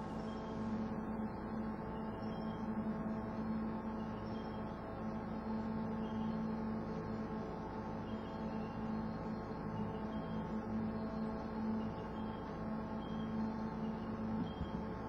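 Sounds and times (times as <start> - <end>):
low drone of held tones: 0.0 - 15.0.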